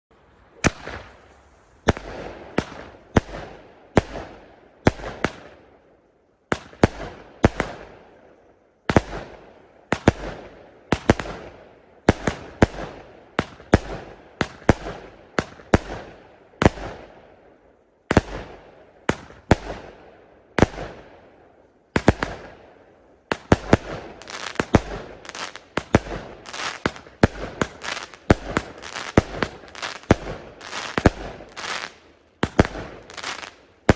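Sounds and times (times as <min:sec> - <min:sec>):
fireworks bangs and crackling: 0:00.5 - 0:05.9, 0:06.5 - 0:33.9.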